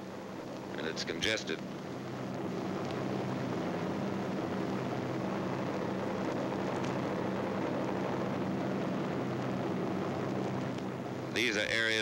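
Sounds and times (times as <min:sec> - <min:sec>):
film soundtrack hiss: 0:00.0 - 0:12.0
propeller plane engines droning: 0:00.0 - 0:12.0.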